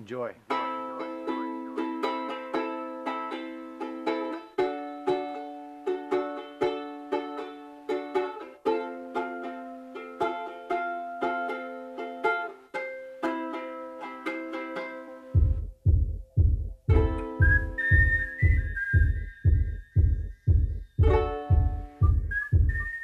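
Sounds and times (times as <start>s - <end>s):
ukulele strumming chords: 0.4s - 23.0s.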